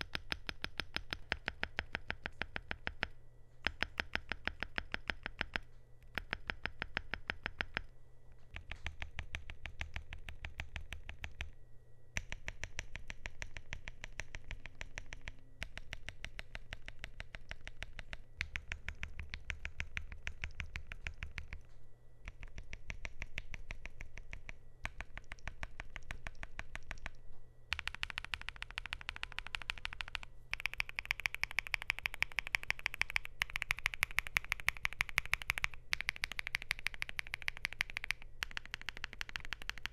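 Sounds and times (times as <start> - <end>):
mechanical keyboard typing: 0.0 - 7.9, 8.5 - 11.5, 12.2 - 21.7, 22.3 - 39.9.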